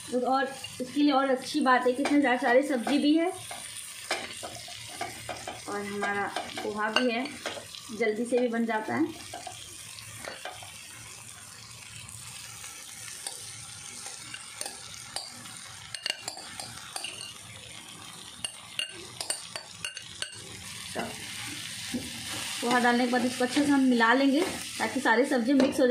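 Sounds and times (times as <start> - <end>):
faint sizzle: 0.0 - 25.9.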